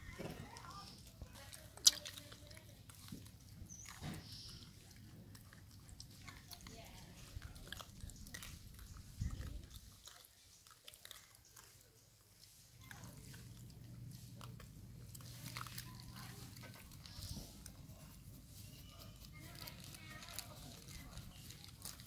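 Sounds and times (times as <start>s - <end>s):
monkeys chewing and suckling: 0.0s - 22.0s.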